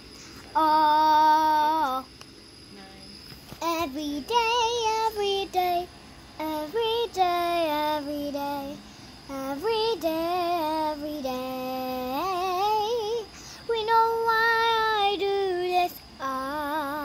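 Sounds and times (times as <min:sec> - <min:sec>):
girl singing: 0:00.5 - 0:02.1, 0:03.6 - 0:17.0.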